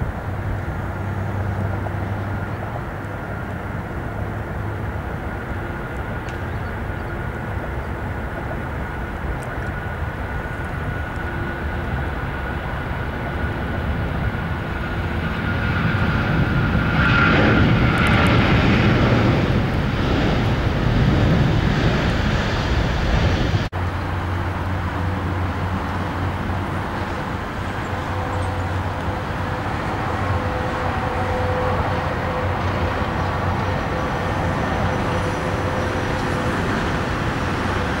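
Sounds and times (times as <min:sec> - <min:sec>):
faint jet whine: 0:00.0 - 0:38.0
jet engines roaring: 0:00.0 - 0:38.0.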